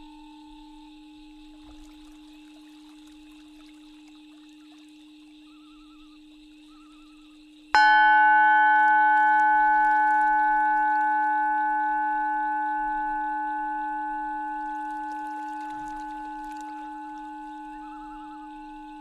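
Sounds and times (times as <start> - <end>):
singing bowl ringing: 0.0 - 19.0
steady low drone tone: 0.0 - 19.0.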